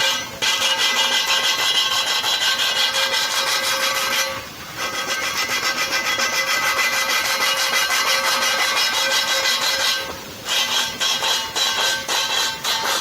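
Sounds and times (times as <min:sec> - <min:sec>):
fast rhythmic rubbing scrape: 0:00.0 - 0:13.0.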